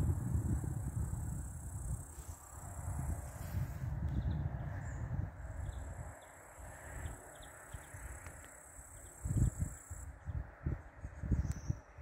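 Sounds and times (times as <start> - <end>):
insect trill: 0.0 - 11.8
wind rumbling on microphone: 0.0 - 12.0.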